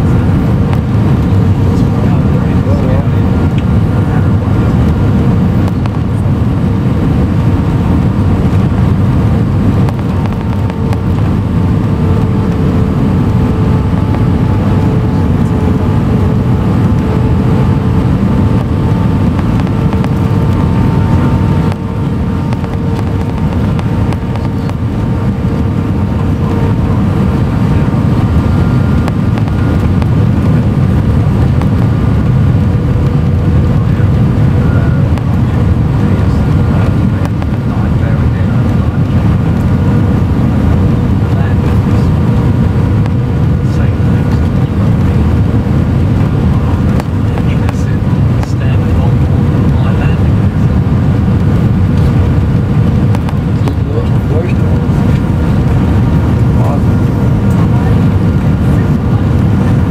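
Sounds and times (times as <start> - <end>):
air rushing past wing: 0.0 - 59.9
aircraft engines roaring: 0.0 - 59.9
faint engine tones: 0.0 - 59.9.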